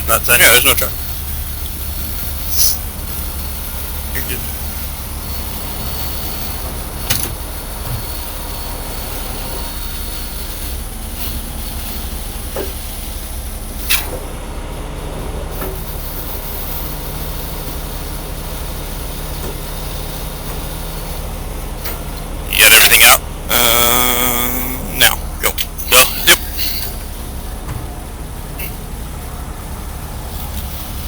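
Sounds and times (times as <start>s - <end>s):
diesel engine low rumble: 0.0s - 31.0s
steady hum: 0.0s - 31.0s.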